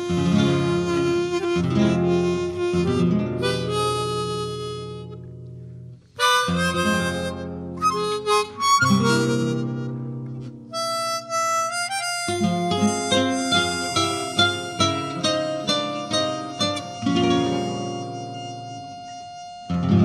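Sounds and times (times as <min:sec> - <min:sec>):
acoustic guitar chords: 0:00.0 - 0:20.0
harmonica melody: 0:00.0 - 0:20.0.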